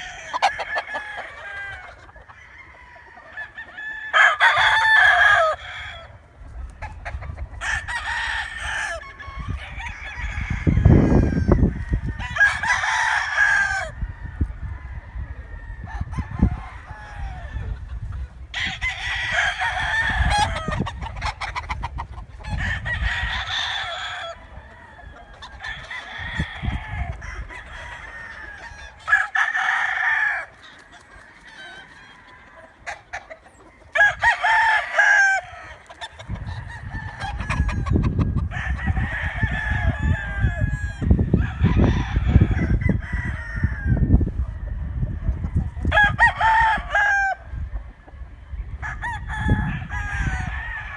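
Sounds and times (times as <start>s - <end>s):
roosters crowing: 0.0s - 50.9s.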